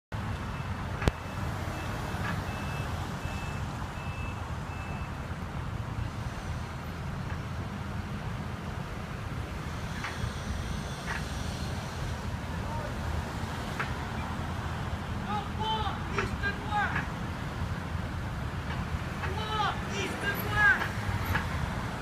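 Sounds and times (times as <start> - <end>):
engine and tyre rumble: 0.1 - 22.0.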